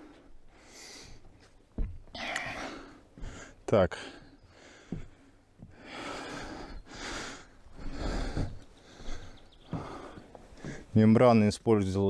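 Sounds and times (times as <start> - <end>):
man breathing hard: 0.0 - 1.4, 2.2 - 10.9.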